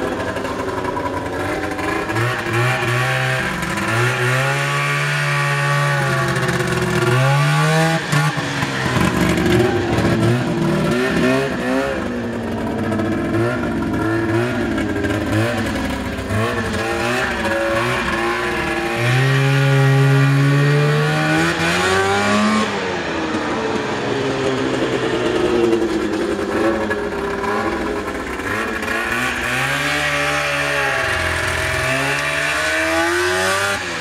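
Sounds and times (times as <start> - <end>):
snowmobile engine under throttle: 0.0 - 34.0.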